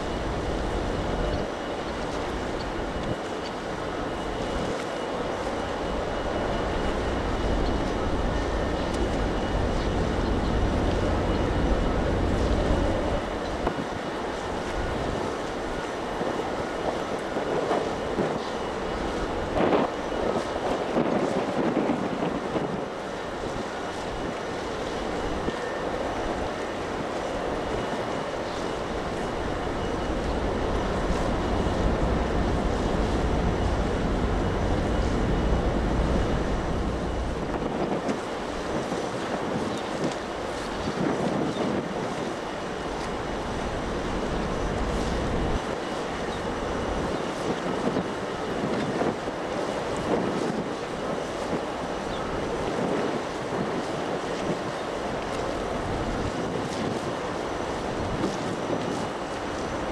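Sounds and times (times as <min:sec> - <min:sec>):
ship engine low rumble: 0:00.0 - 0:59.9
wind on microphone: 0:00.0 - 0:59.9.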